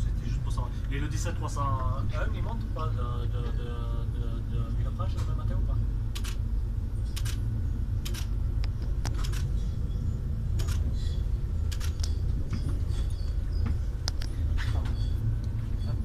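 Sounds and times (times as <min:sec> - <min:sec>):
railcar rumbling: 0:00.0 - 0:16.0.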